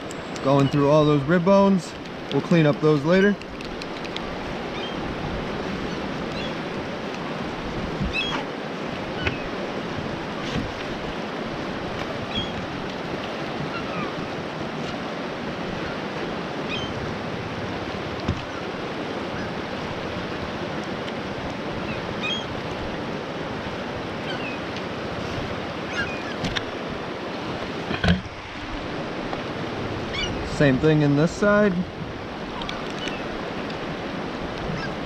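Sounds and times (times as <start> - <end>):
fast-flowing river rushing: 0.0 - 35.0.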